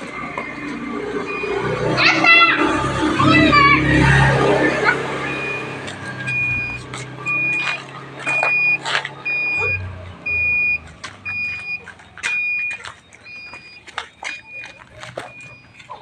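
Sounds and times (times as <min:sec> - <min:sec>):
vehicle reversing alarm beeping: 0:00.0 - 0:16.0.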